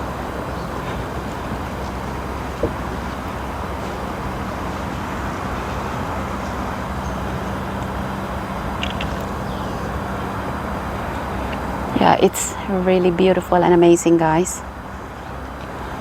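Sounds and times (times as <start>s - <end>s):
constant low hum: 0.0s - 16.0s
distant traffic rumble: 0.0s - 16.0s.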